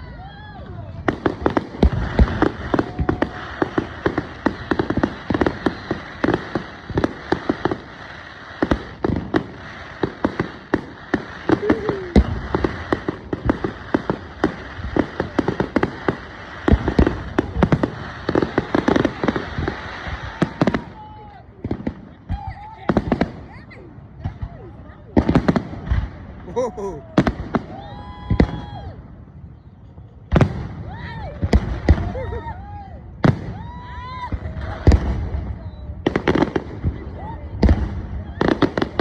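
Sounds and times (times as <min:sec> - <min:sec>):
fireworks crackle: 0:00.0 - 0:39.0
fireworks bangs and pops: 0:00.9 - 0:39.0.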